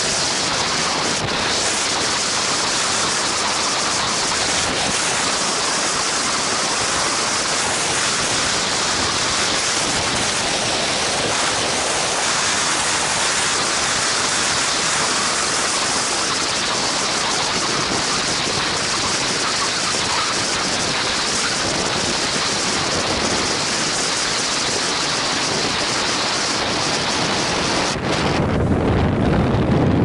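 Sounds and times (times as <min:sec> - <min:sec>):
rushing wind: 0:00.0 - 0:30.0.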